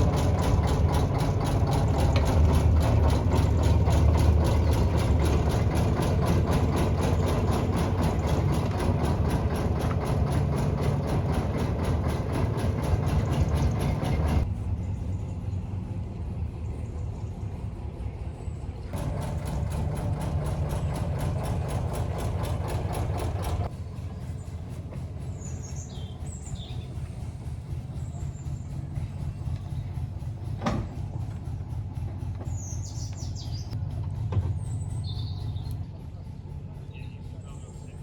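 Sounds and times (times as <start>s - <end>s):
birds chirping: 0.0s - 30.5s, 32.3s - 33.8s, 34.5s - 38.0s
train running rumble: 0.0s - 38.0s.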